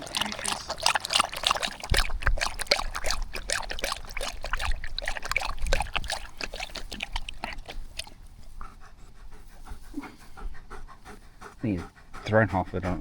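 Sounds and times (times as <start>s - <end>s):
dog lapping water: 0.0s - 8.7s, 10.2s - 13.0s.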